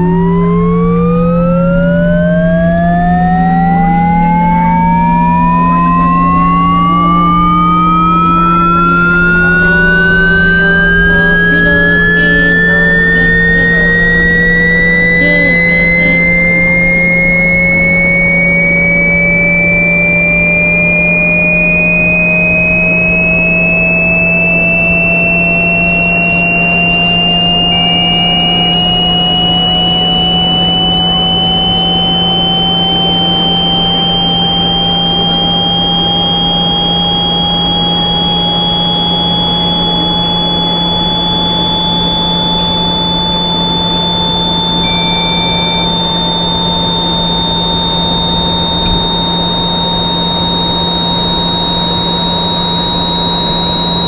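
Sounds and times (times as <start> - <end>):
steady low hum: 0.0 - 54.0
train inverter whine rising: 0.0 - 54.0.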